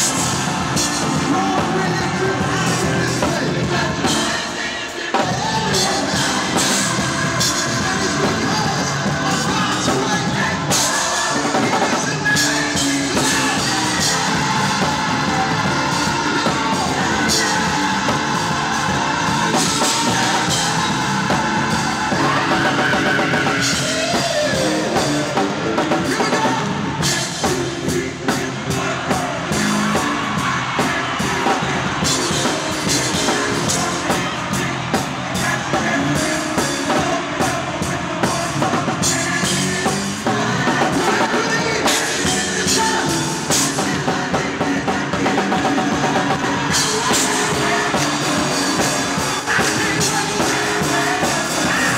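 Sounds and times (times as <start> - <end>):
band playing: 0.0 - 51.9
choir singing: 0.0 - 51.9
drum kit beat: 0.0 - 51.9.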